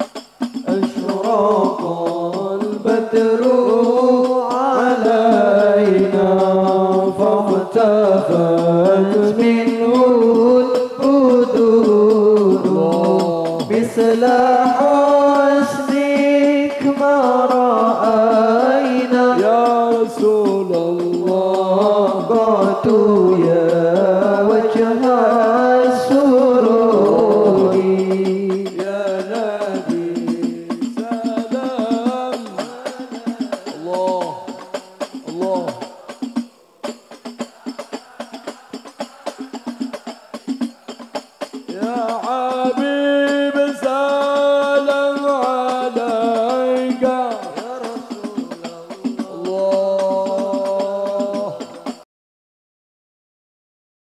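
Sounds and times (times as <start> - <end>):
man singing devotional melody: 0.0 - 52.0.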